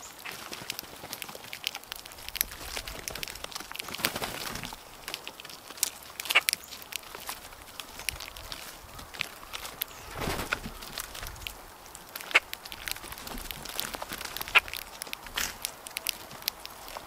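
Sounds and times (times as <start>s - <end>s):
birds pecking and rustling in litter: 0.0s - 17.0s
birds wingbeats: 0.0s - 17.0s.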